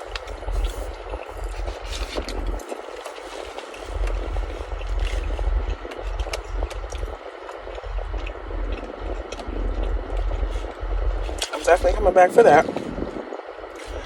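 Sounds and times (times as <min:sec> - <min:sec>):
crunchy food chewing: 0:00.0 - 0:12.0, 0:12.6 - 0:14.0
steady low rumble: 0:00.0 - 0:14.0.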